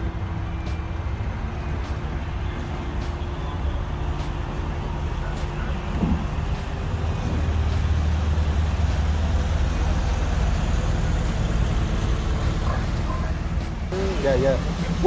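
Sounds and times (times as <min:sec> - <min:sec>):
van engine driving past: 0:00.0 - 0:15.0.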